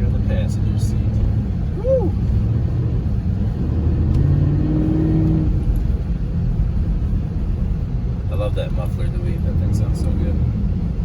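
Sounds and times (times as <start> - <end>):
car exhaust rumble: 0.0 - 11.0.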